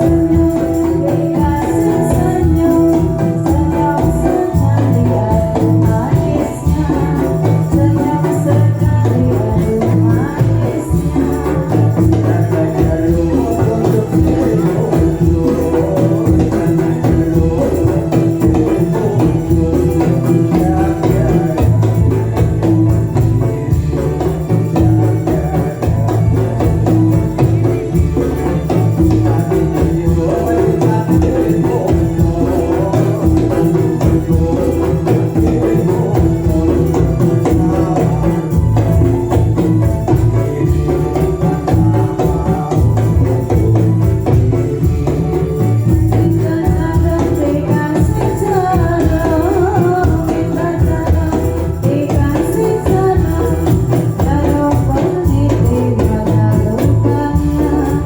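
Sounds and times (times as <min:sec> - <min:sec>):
frame drums: 0:00.0 - 0:58.0
held melodic tone: 0:00.0 - 0:58.0
jingling percussion: 0:00.0 - 0:58.0.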